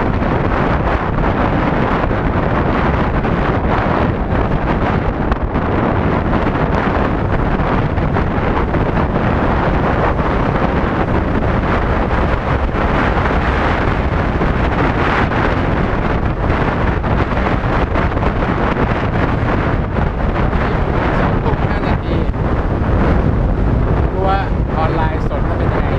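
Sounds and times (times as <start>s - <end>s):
road and engine noise: 0.0s - 25.9s
wind buffeting microphone: 0.0s - 25.9s.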